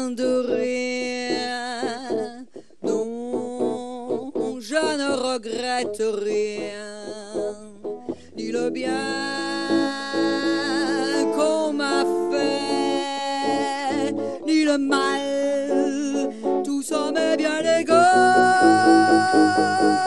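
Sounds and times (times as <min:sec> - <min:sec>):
woman singing a ballad: 0:00.0 - 0:07.8, 0:08.4 - 0:20.0
electric guitar accompaniment: 0:00.0 - 0:20.0.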